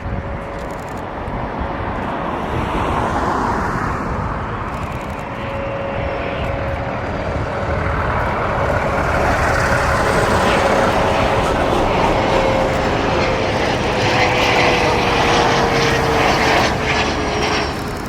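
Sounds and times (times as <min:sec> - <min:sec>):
jet aircraft engines running: 0:00.0 - 0:18.0.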